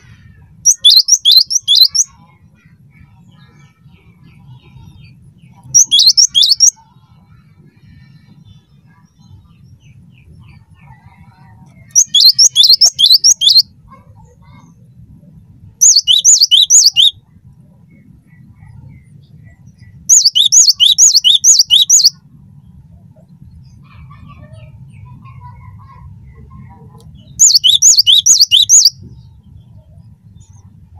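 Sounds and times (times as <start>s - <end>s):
bird singing high rapid phrases: 0.0s - 30.9s.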